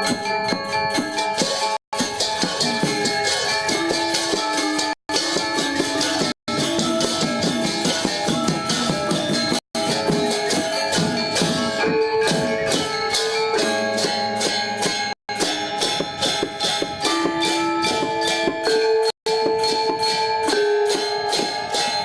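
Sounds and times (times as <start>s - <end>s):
gamelan gong ensemble playing: 0.0s - 22.0s.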